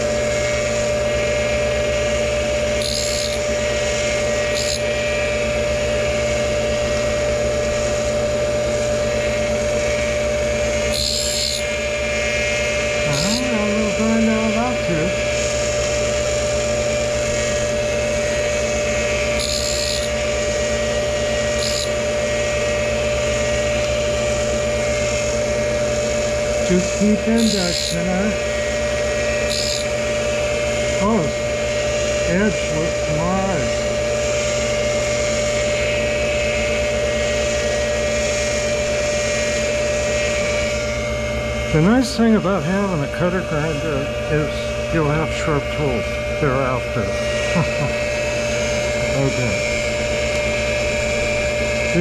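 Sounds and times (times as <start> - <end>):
grinder motor hum with high tone: 0.0 - 52.0
grinding wheel hissing on metal: 0.0 - 52.0.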